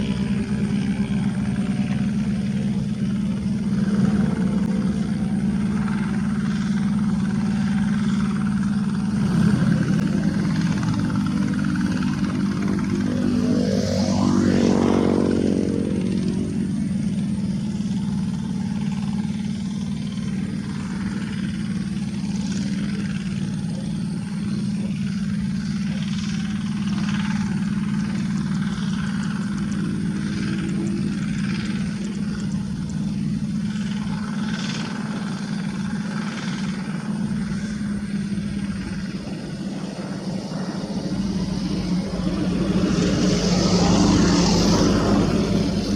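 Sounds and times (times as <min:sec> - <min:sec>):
hand tractor diesel engine running: 0:00.0 - 0:45.9.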